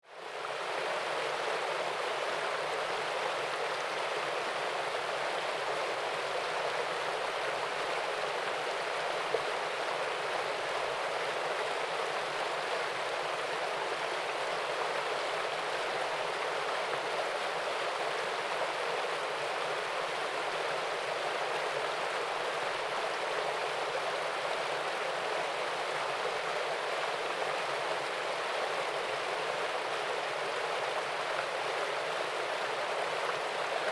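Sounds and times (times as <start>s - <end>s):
waterfall and stream rushing: 0.1s - 33.9s.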